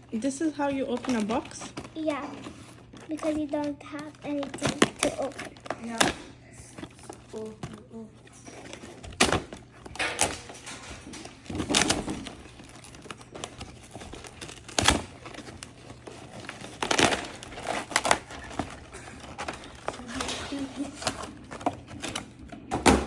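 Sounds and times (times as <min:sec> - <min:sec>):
packaging being torn open: 0:00.9 - 0:22.4.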